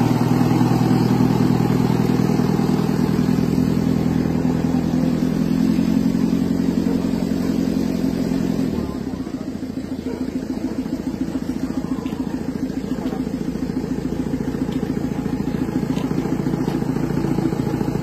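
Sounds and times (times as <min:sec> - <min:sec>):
jeep engine running: 0:00.0 - 0:18.0.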